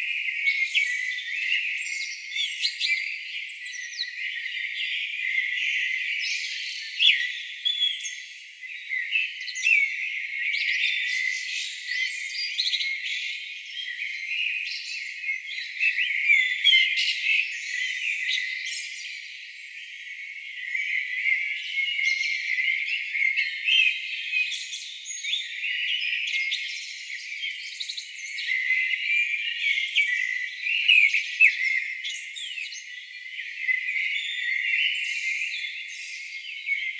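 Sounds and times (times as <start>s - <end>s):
songbirds chirping and trilling: 0.0s - 36.9s.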